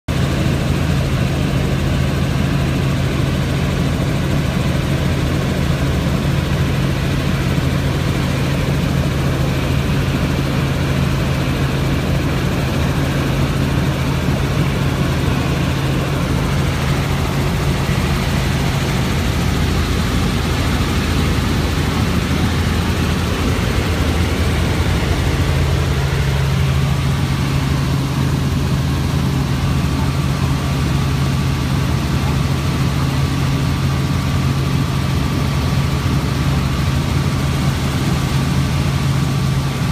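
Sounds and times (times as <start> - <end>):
helicopter drone from cabin: 0.1 - 39.9.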